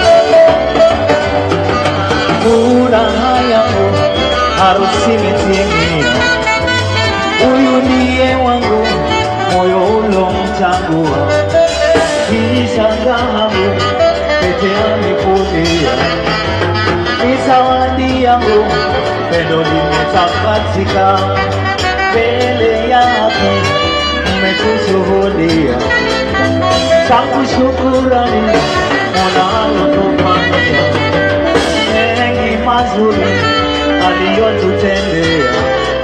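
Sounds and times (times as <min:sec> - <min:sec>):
loud band music: 0:00.0 - 0:36.0
person singing: 0:00.0 - 0:36.0.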